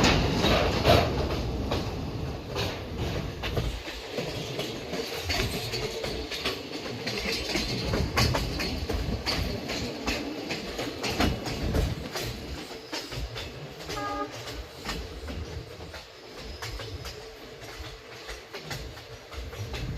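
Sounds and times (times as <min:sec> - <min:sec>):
train rumbling on track: 0:00.0 - 0:19.9
wheels clattering over rails: 0:00.0 - 0:19.9.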